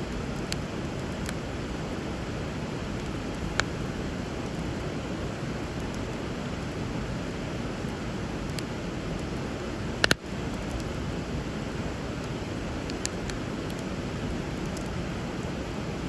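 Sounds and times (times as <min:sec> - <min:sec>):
wood fire crackling and popping: 0:00.1 - 0:16.0.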